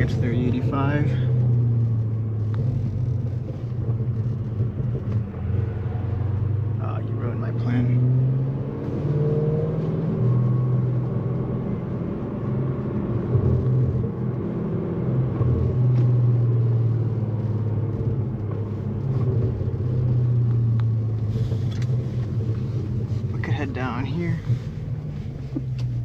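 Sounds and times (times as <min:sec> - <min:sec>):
car engine running low: 0:00.0 - 0:26.0.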